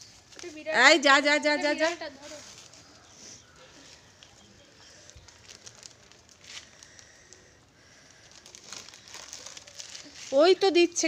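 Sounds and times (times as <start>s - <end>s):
plastic bag crinkling: 1.7s - 11.0s.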